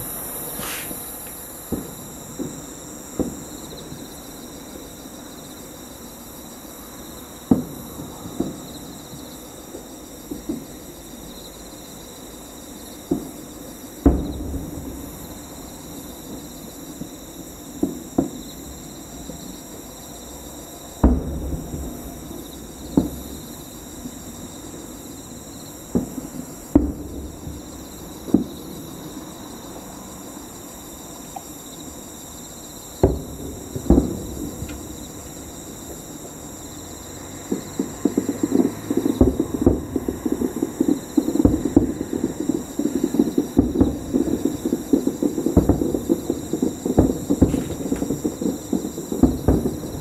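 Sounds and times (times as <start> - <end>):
distant fireworks booming: 0.0 - 11.8, 12.7 - 50.0.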